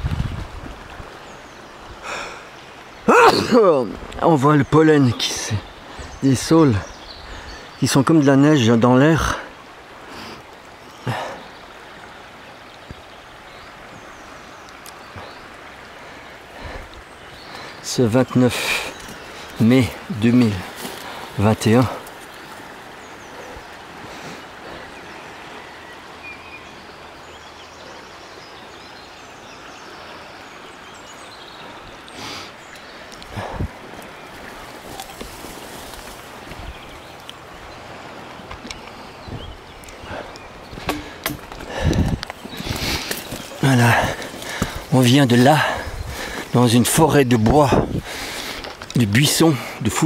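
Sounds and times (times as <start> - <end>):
river flowing over gravel: 0.0 - 50.0.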